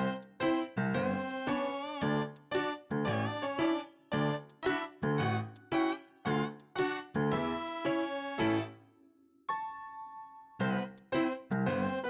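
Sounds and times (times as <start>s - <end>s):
playful keyboard tune: 0.0s - 12.0s.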